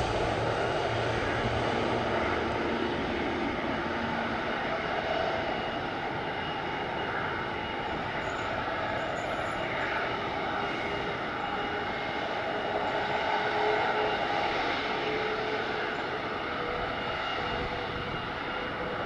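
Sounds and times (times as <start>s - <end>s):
thin whining tones: 0.0s - 19.0s
turboprop propeller drone: 0.0s - 19.0s.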